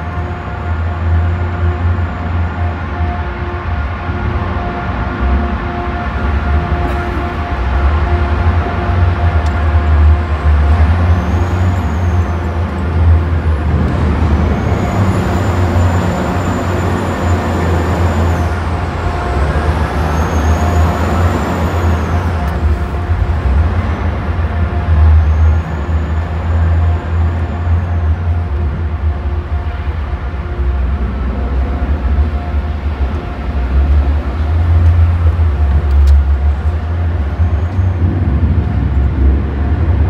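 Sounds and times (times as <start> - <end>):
heavy engine low rumble: 0.0 - 40.0.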